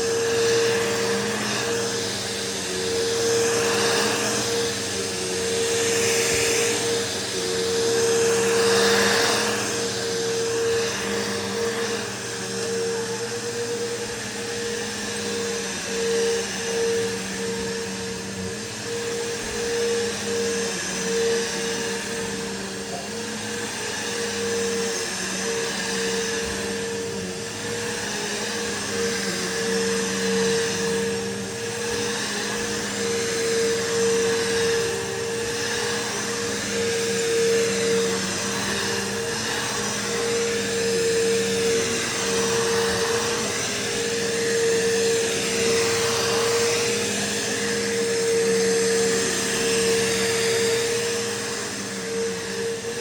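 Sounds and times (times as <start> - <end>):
vacuum cleaner running on carpet: 0.0 - 53.0.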